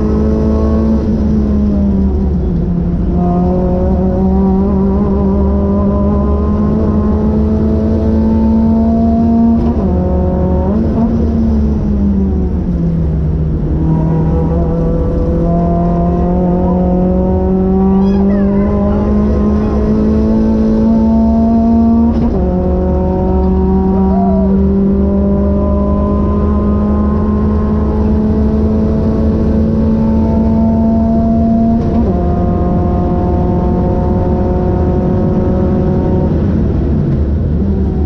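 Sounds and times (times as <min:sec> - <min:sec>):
car engine under full throttle: 0:00.0 - 0:38.0
road and tyre noise: 0:00.0 - 0:38.0.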